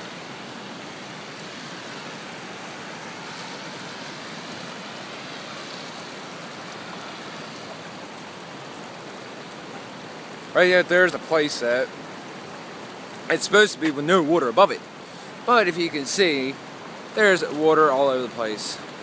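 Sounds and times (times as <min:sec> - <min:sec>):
floodwater rushing down a creek: 0:00.0 - 0:19.0.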